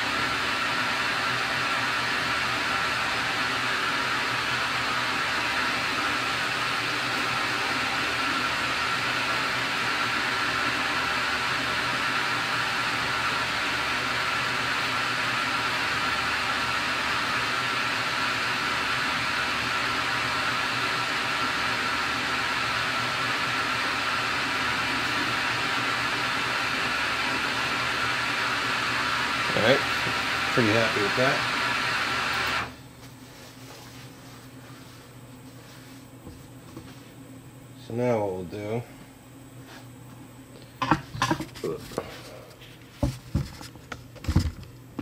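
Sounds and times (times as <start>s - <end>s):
machine hum with high-pitched whine: 0.0s - 45.0s.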